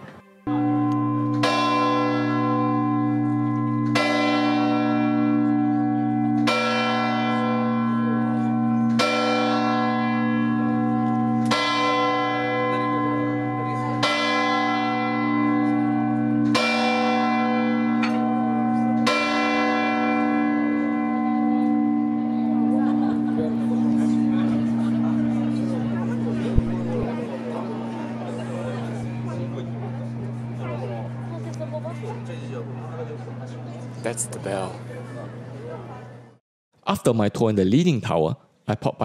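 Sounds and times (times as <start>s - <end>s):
church bell tolling: 0.4s - 34.9s.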